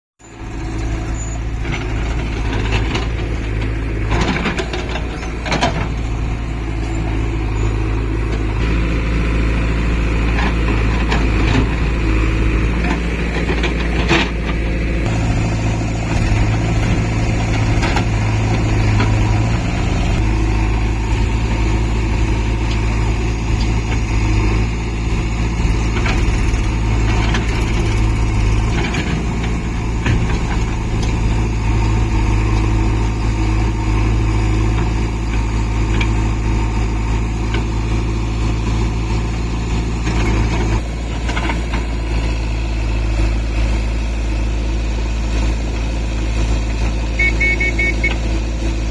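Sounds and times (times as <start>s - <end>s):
diesel engines working: 0.2s - 48.9s.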